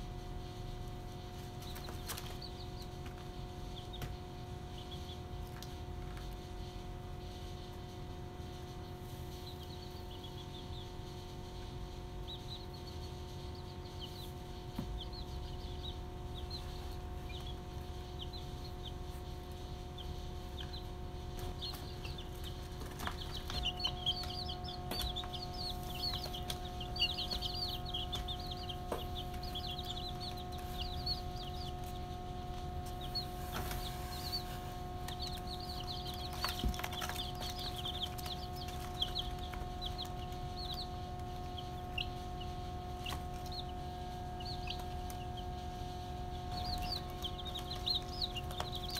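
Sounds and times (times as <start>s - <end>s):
chicks peeping: 0.0s - 48.9s
steady low hum: 0.0s - 48.9s.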